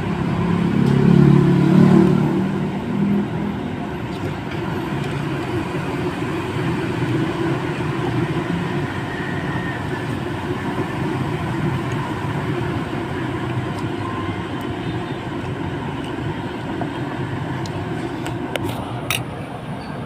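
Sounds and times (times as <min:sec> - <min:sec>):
rumble of road vehicles: 0:00.0 - 0:20.0.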